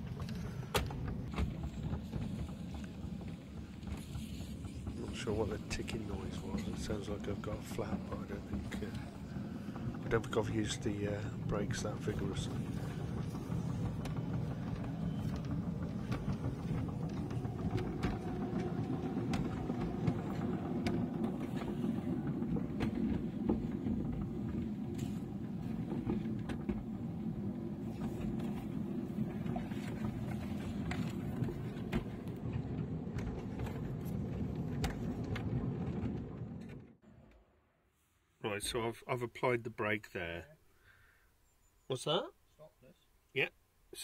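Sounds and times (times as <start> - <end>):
steel wheels rumbling on rails: 0.0 - 37.0.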